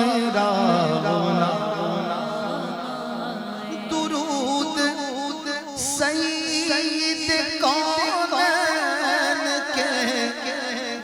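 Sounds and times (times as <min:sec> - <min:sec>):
man singing with echo: 0:00.0 - 0:11.0.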